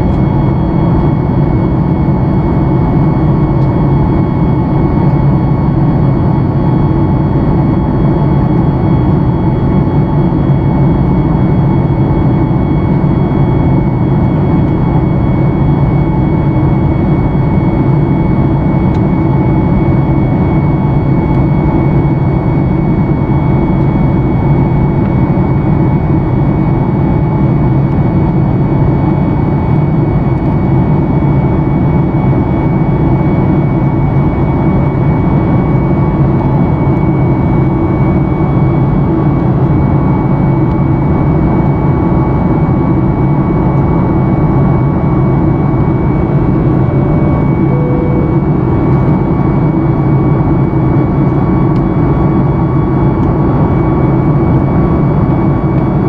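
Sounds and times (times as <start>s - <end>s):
jet engine low rumble: 0.0s - 56.0s
thin steady whine: 0.0s - 56.0s.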